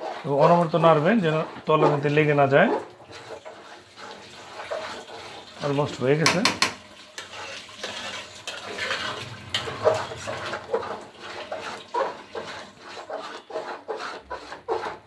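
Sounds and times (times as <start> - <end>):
metal spoon scraping pot: 0.0 - 15.0.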